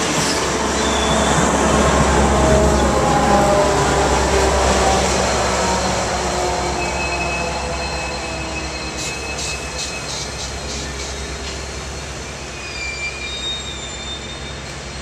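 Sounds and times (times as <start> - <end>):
high whine from wheels: 0.0 - 15.0
train wheels rolling: 0.0 - 15.0.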